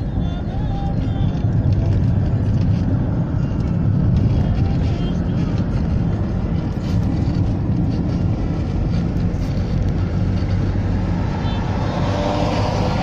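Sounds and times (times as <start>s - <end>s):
tyres and engine rumble: 0.0s - 13.0s.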